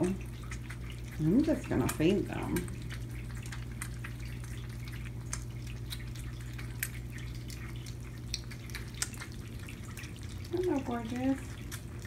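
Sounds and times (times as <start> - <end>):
kittens chewing and lapping: 0.0 - 12.0
steady low hum: 0.0 - 12.0.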